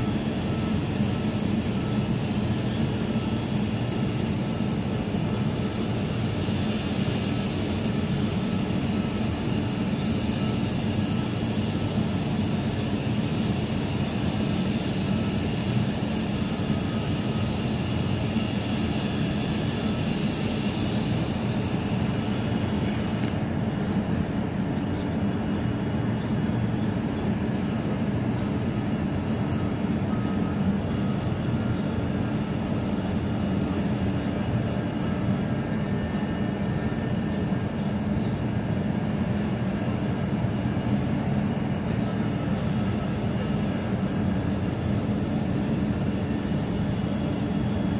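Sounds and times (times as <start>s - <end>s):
faint steady tones: 0.0s - 47.9s
machinery low rumble: 0.0s - 47.9s.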